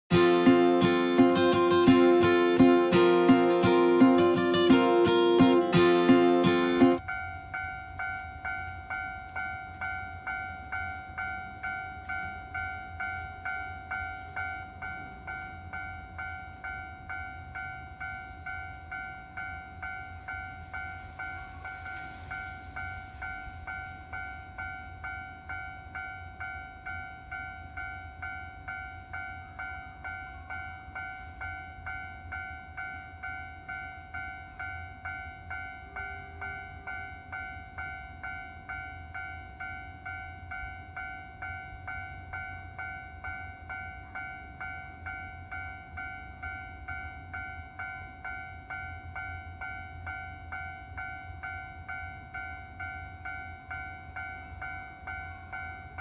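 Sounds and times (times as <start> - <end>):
railroad crossing warning bell: 0.1 - 56.0.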